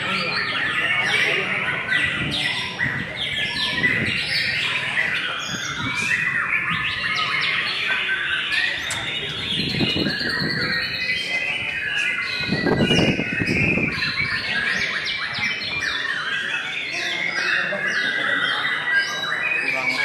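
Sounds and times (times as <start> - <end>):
birds singing fast varied song: 0.0 - 20.0
people's voices: 0.0 - 20.0.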